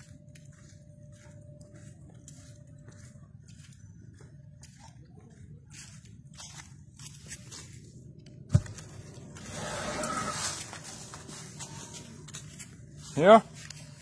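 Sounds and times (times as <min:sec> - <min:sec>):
footsteps in dry leaves: 0:00.0 - 0:14.0.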